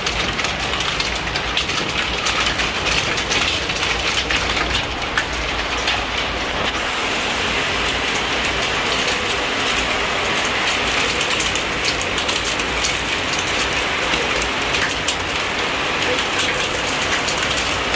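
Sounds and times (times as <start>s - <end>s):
hailstones ticking on glass: 0.0s - 6.8s, 7.8s - 17.9s
rain on window glass: 0.0s - 17.9s.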